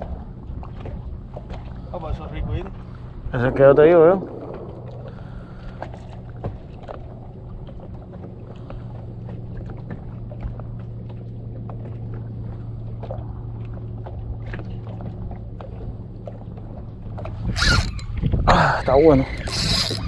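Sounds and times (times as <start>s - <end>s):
steady low hum: 0.0s - 18.1s
water against kayak: 0.0s - 20.0s.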